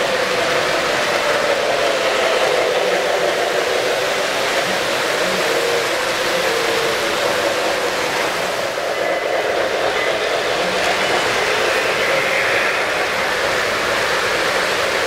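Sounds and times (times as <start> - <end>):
model train rumbling past: 0.0 - 15.0.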